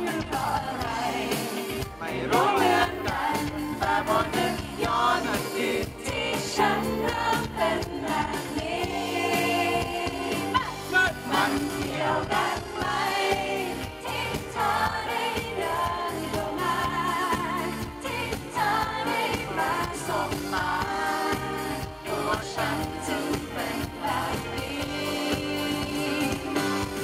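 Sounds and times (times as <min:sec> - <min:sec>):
full band playing pop: 0:00.0 - 0:27.0
woman and man singing duet: 0:00.0 - 0:27.0.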